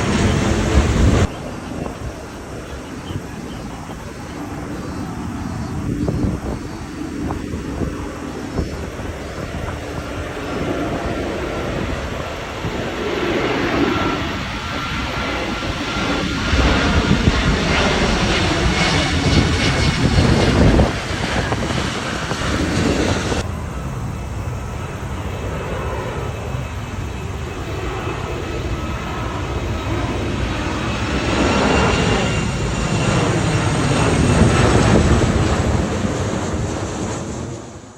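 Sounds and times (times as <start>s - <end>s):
airliners passing overhead: 0.0s - 37.9s.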